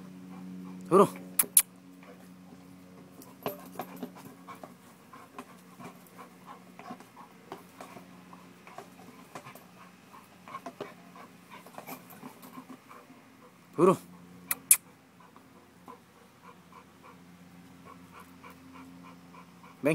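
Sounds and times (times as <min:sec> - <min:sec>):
dog panting: 0:00.0 - 0:19.9
steady low hum: 0:00.0 - 0:19.9.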